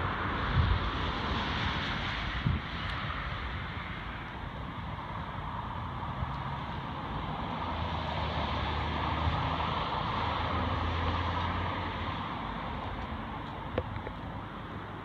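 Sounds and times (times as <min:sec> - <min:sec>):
passing vehicle engine and tyres: 0:00.0 - 0:15.0
steady traffic hiss: 0:00.0 - 0:15.0.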